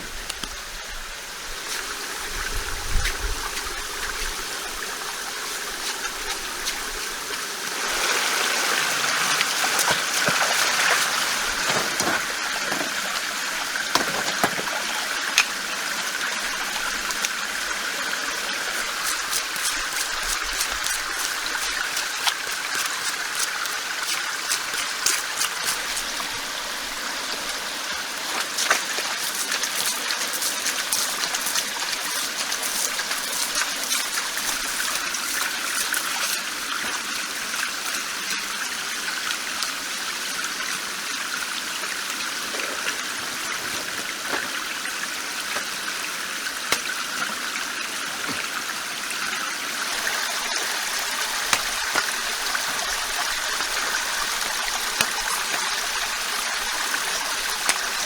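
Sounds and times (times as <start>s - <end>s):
small stream trickling: 0.0s - 58.0s.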